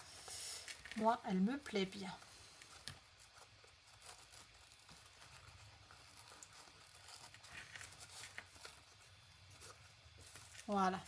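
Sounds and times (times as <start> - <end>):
ribbon and paper rustling: 0.0 - 11.0.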